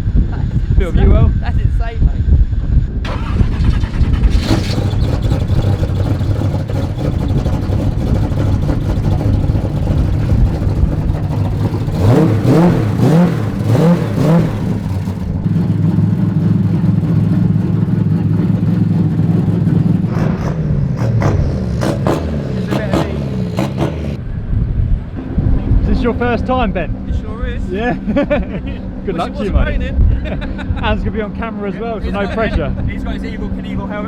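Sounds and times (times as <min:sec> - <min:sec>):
car engine running and revving: 0:03.0 - 0:34.0.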